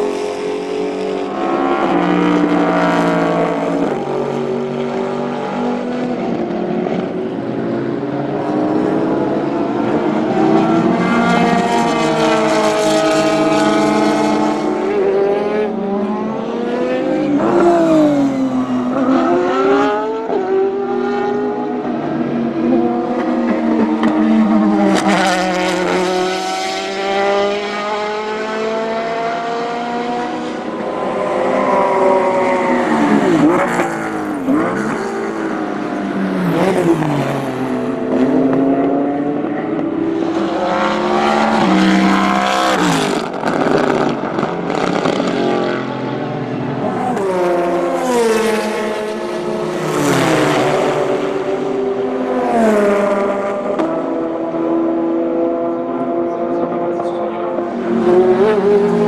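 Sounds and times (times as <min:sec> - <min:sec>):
racing cars passing: 0:00.0 - 0:59.0.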